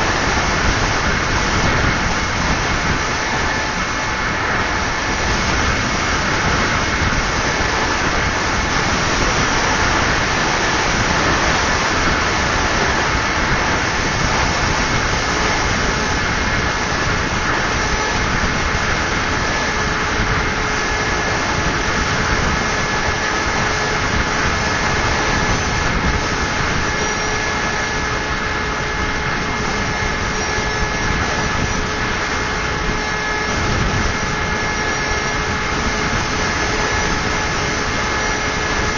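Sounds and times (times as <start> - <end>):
wind noise: 0.0 - 38.9.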